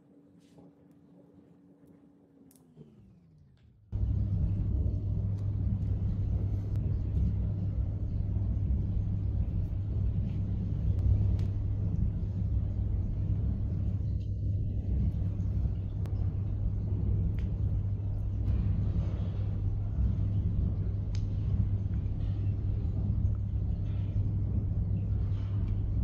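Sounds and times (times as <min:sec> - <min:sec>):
low rumble: 0:03.9 - 0:26.0.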